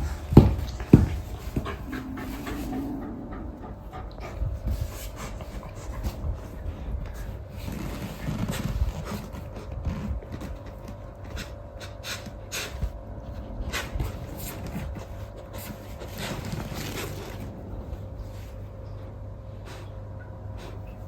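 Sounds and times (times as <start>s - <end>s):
dog breathing and snuffling: 0.0s - 20.0s, 20.6s - 21.0s
faint steady hum: 0.0s - 21.0s.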